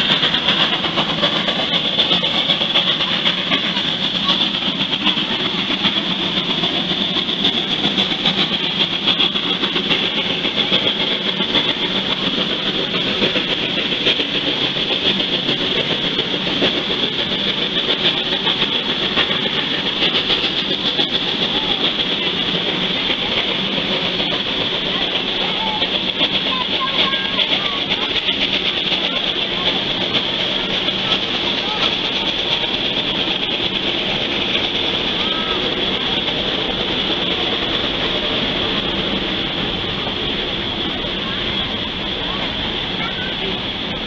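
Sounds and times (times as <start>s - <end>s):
steam train hiss: 0.0s - 44.0s
train rumble and clatter: 0.0s - 44.0s.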